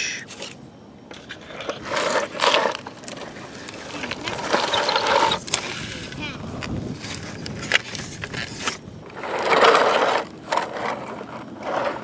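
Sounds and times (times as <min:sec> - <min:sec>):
plastic toys scraping through sand: 0:01.2 - 0:06.2, 0:06.9 - 0:12.0.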